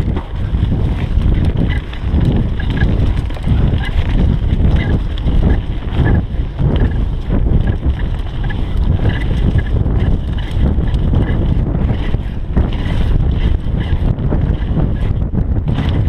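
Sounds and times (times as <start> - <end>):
bike rattling and clicking: 0.0 - 16.0
bike tyres rumbling on dirt: 0.0 - 16.0
wind buffeting microphone: 0.0 - 16.0.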